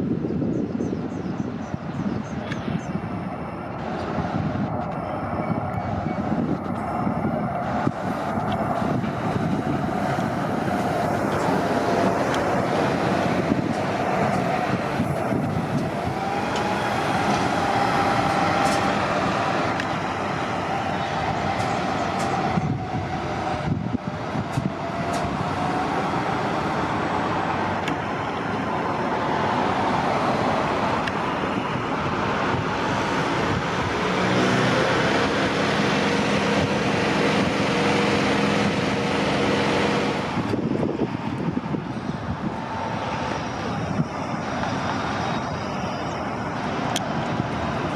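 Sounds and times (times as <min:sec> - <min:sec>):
buses passing in traffic: 0:00.0 - 0:47.9
engine drone: 0:01.6 - 0:47.9
gliding whine: 0:02.6 - 0:47.9.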